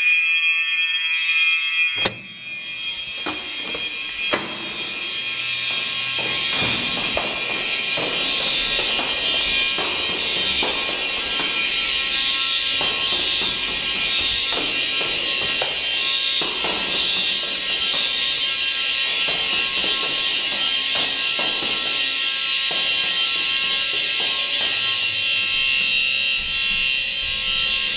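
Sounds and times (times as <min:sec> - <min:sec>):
fire alarm horn buzzing: 0:00.0 - 0:27.9.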